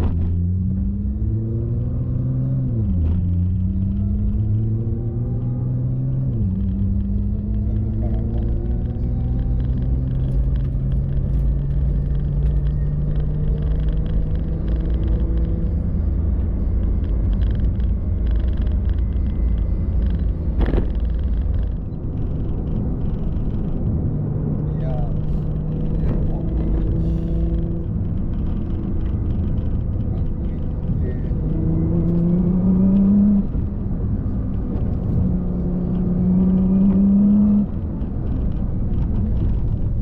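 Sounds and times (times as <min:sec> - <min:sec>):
car engine: 0:00.0 - 0:40.0
road rumble: 0:00.0 - 0:40.0.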